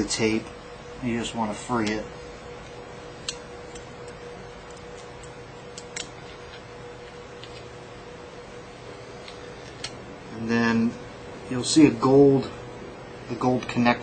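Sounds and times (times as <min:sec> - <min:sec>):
faint hum and hiss: 0:00.0 - 0:14.0.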